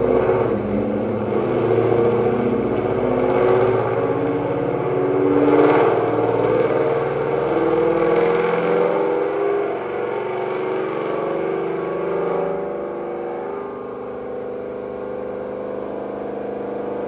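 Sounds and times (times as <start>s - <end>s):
car engine running on dyno: 0.0s - 17.0s
faint high whine: 0.0s - 17.0s.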